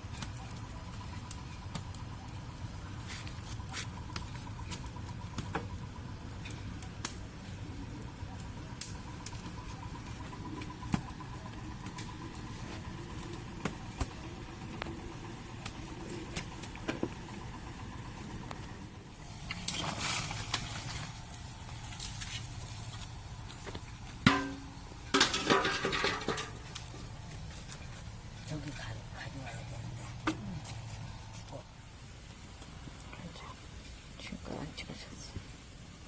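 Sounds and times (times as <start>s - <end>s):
wood fire crackling and popping: 0.0s - 34.2s.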